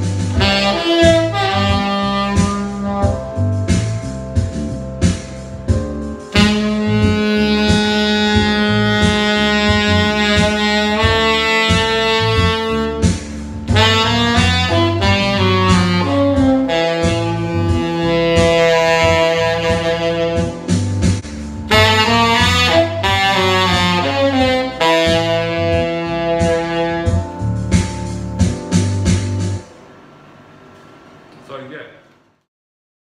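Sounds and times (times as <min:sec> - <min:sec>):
tenor saxophone jazz solo: 0:00.0 - 0:29.7
bass and drums backing track: 0:00.0 - 0:29.9.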